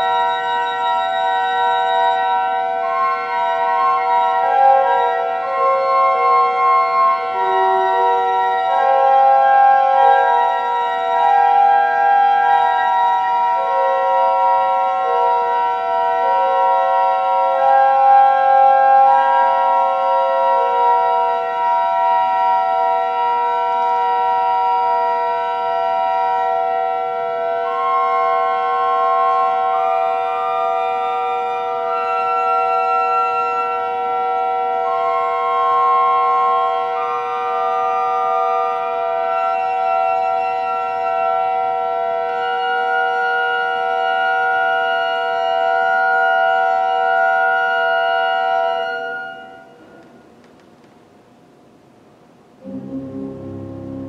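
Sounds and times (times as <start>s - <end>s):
church organ chords: 0.0s - 50.1s, 52.6s - 54.0s.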